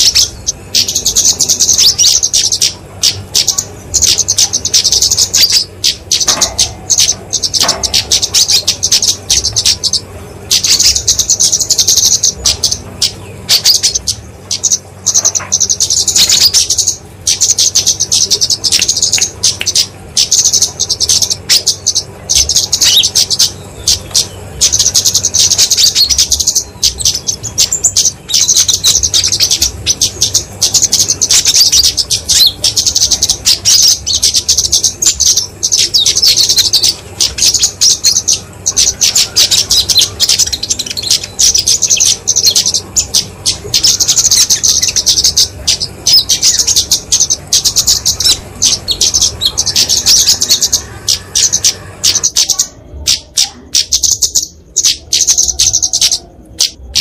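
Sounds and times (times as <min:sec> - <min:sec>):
birds chattering chirps: 0:00.0 - 0:57.0.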